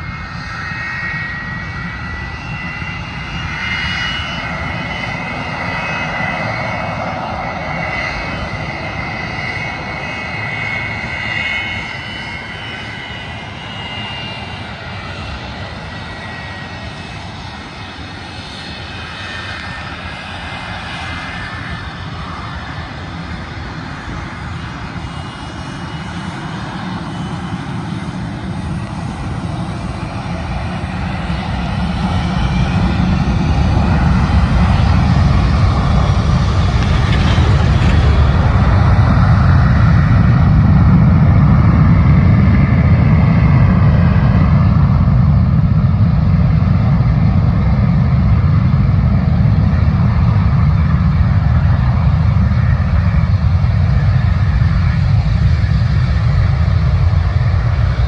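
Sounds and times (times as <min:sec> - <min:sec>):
jet engines roaring with whine: 0:00.0 - 0:58.0.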